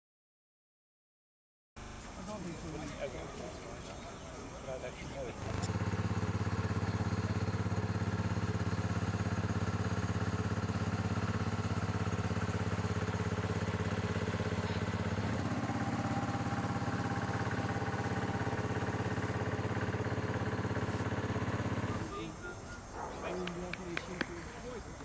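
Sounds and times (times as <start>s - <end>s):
small engine running: 1.8s - 23.8s.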